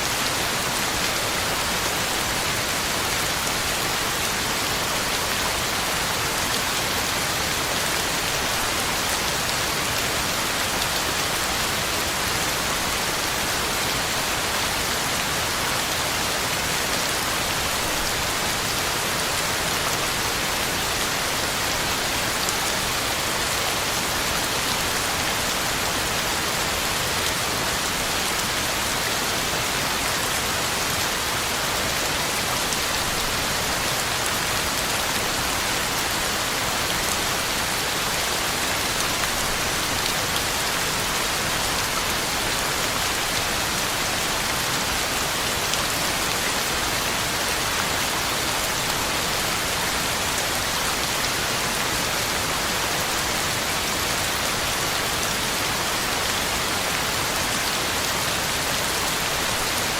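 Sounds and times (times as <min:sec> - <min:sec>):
heavy rain on ground and leaves: 0:00.0 - 0:59.9.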